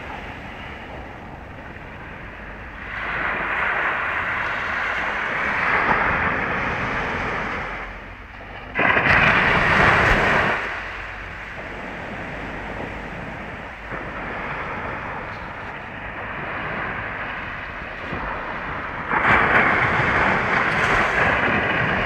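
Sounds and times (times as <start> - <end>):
waves washing on beach: 0.0 - 22.0
wind buffeting microphone: 0.0 - 22.0.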